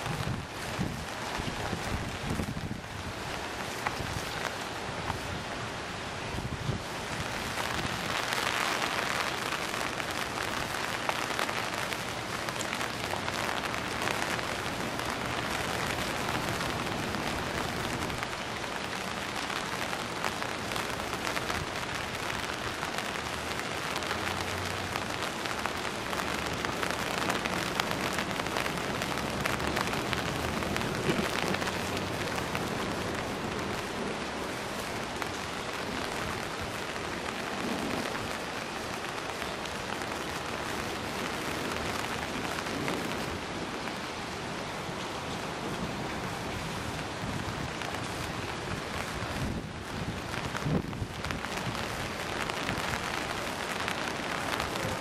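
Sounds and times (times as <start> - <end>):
rain on umbrella: 0.0 - 55.0.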